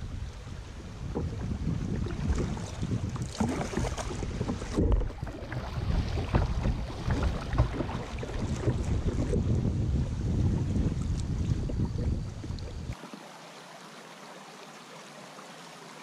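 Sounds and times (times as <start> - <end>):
wind on microphone: 0.0 - 13.0
water sloshing: 1.1 - 15.9
paddle strokes splashing: 1.1 - 16.0.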